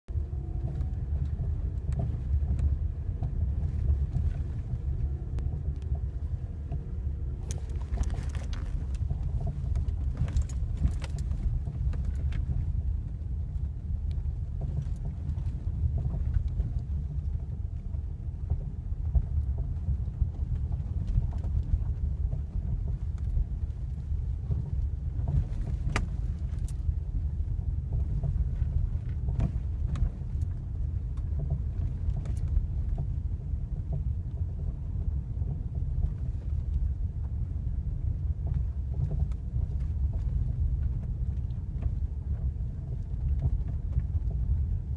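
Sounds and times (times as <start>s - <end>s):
low road rumble: 0.0s - 44.9s.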